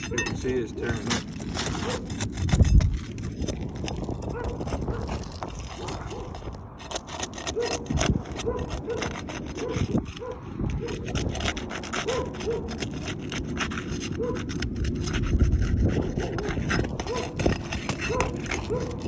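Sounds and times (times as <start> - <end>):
roof shingle scraping: 0.0 - 19.0
small squeaks: 0.0 - 19.0.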